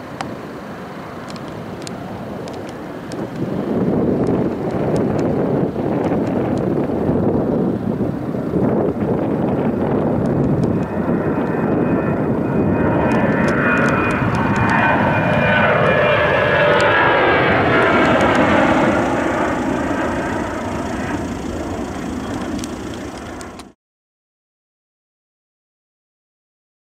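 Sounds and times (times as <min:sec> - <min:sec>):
jet engine roar: 0:00.0 - 0:23.8.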